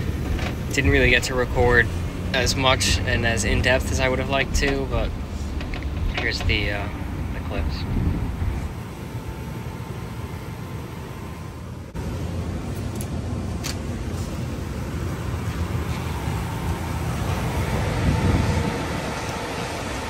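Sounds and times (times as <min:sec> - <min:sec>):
gas furnace rumbling: 0:00.0 - 0:20.0.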